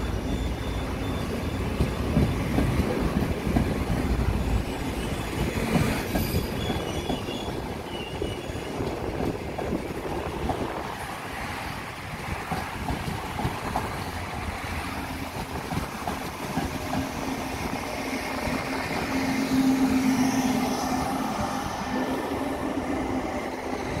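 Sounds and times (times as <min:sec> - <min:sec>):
train humming tone: 0:00.0 - 0:24.0
train wheels rumbling on rails: 0:00.0 - 0:24.0.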